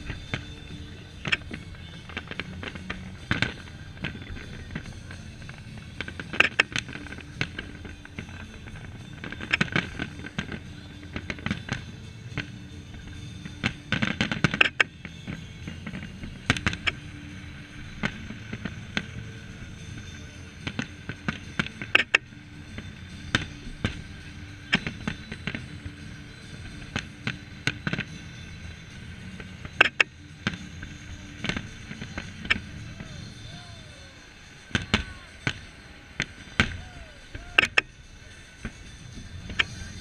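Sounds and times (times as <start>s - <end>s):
fireworks bursting with bangs: 0.0s - 40.0s
low background rumble: 0.0s - 40.0s.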